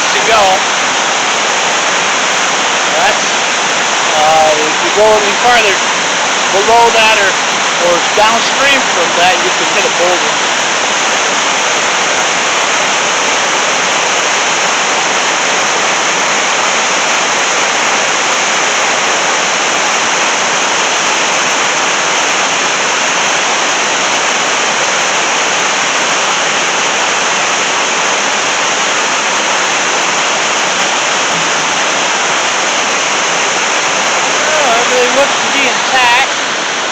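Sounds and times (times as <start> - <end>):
white water rushing over rocks: 0.0 - 36.9.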